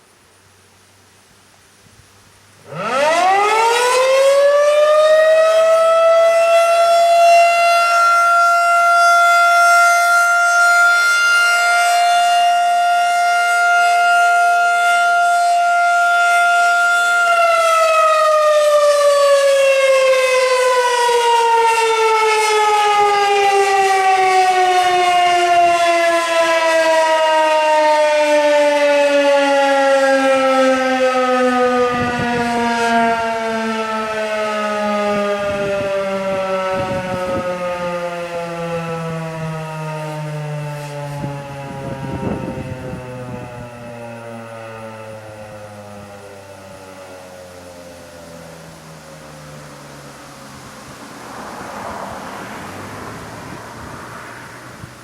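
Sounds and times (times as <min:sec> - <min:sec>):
civil defense siren wailing: 0:02.6 - 0:55.0.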